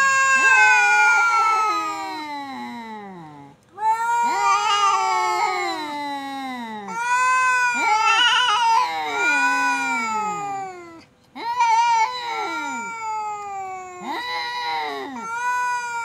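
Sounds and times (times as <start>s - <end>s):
cats yowling: 0.0s - 2.7s, 3.8s - 5.9s, 6.9s - 16.0s.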